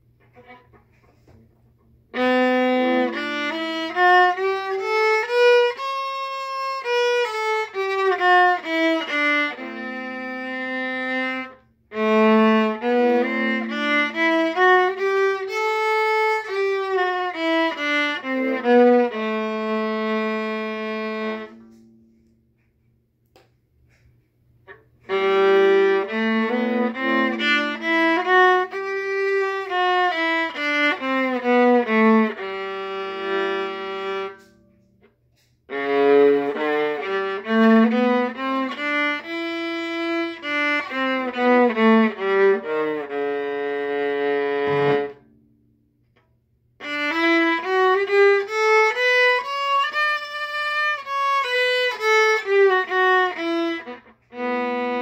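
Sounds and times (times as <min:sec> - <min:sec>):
violin playing scales: 0:00.0 - 0:01.3, 0:02.1 - 0:22.0, 0:24.7 - 0:45.4, 0:46.8 - 0:55.0.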